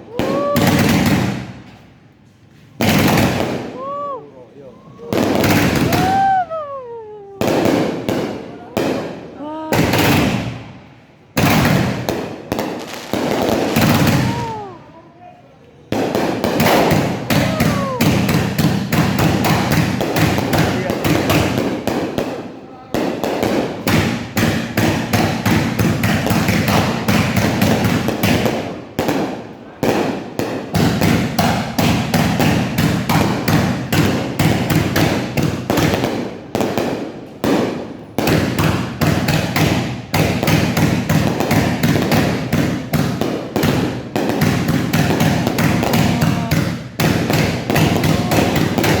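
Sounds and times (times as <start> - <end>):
fireworks bangs: 0.0 - 15.2, 15.8 - 49.0.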